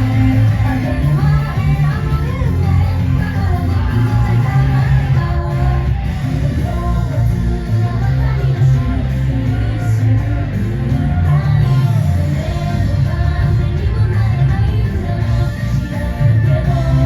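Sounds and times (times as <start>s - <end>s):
electric guitar: 0.0s - 17.0s
heavy bass: 0.0s - 17.0s
person singing: 0.0s - 17.0s
pop backing track: 0.0s - 17.0s.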